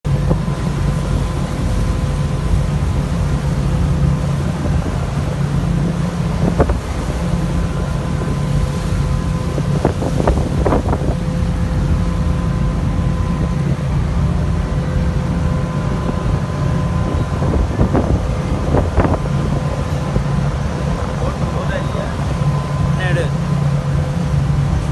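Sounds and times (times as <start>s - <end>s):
engine humming: 0.0s - 24.9s
wind rumble on microphone: 0.0s - 24.9s.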